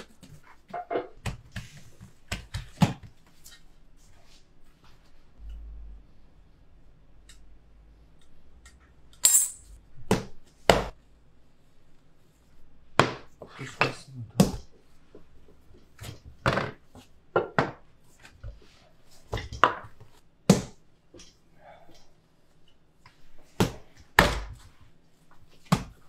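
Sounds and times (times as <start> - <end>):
soft dough handling noise: 0.0 - 9.1, 9.8 - 26.0.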